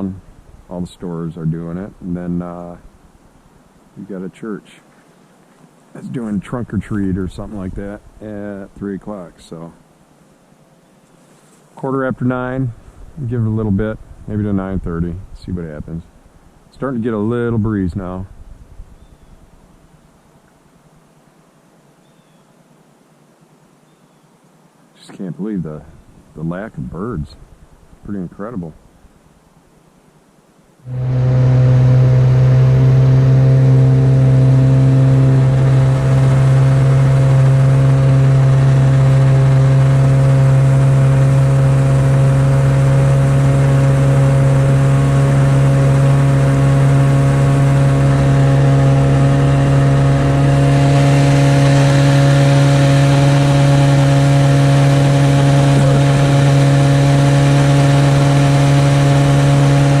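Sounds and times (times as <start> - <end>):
engine humming steadily: 0.0 - 22.4, 24.5 - 60.0.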